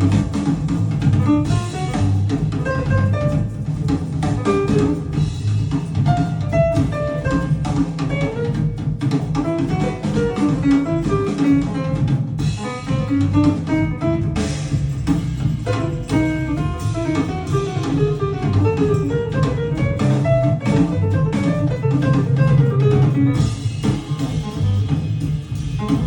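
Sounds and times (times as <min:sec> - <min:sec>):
instrumental music with guitar and drums: 0:00.0 - 0:26.0.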